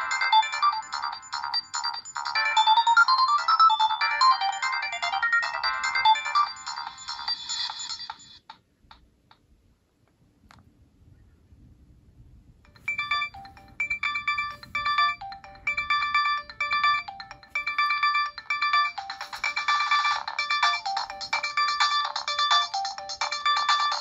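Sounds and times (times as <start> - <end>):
electronic ringtone melody: 0.0 - 8.4, 12.7 - 24.0.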